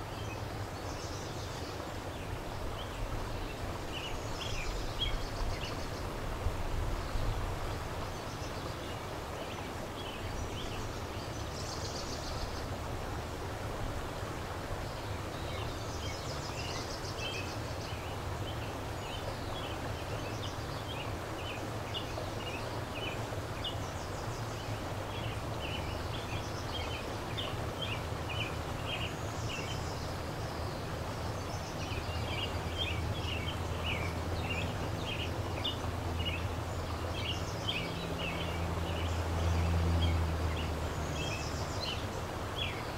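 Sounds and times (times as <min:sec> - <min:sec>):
fast-flowing river rushing: 0:00.0 - 0:42.9
songbirds calling: 0:00.0 - 0:42.9.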